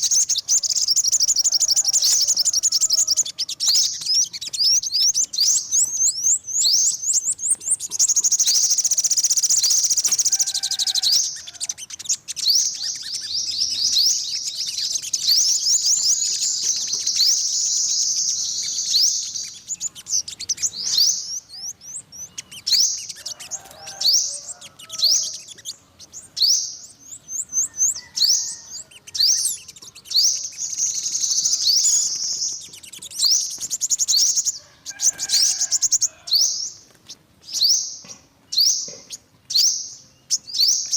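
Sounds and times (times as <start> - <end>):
sunbird chirping trills: 0.0 - 40.9.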